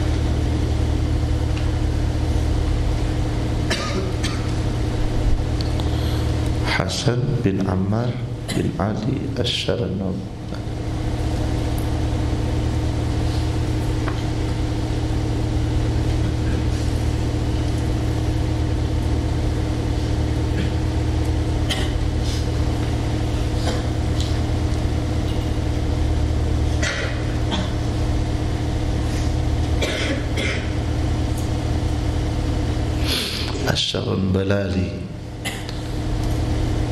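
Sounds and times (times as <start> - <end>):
low buzzing hum: 0.0 - 36.9.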